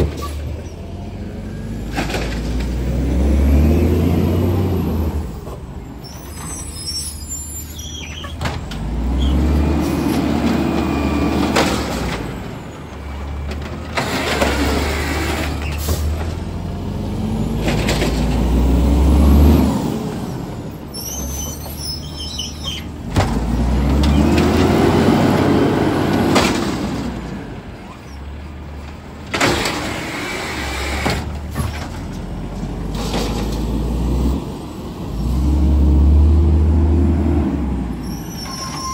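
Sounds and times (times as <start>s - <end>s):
heavy truck engines: 0.0s - 38.9s.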